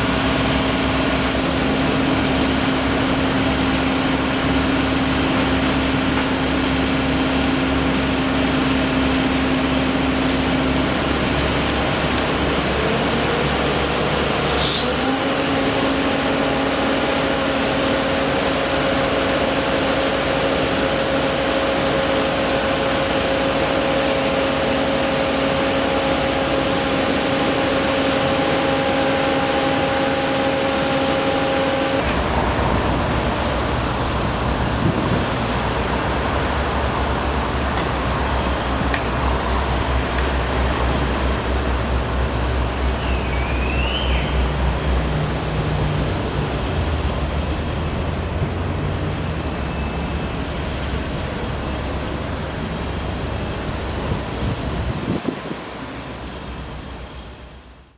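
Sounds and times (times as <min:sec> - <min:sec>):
machinery noise: 0:00.0 - 0:57.9
steady hum: 0:00.0 - 0:57.9
traffic noise: 0:00.0 - 0:57.9.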